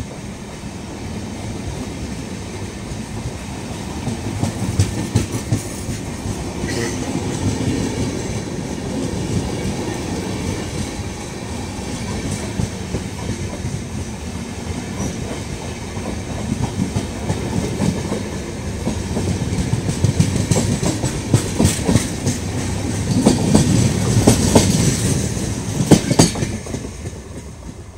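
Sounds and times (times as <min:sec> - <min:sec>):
clickety-clack over rail joints: 0:00.0 - 0:27.9
train wheels rumbling: 0:00.0 - 0:27.9.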